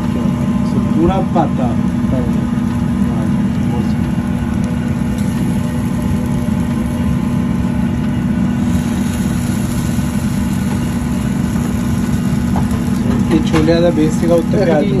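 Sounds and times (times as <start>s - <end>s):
mechanical drone of running equipment: 0.0s - 15.0s.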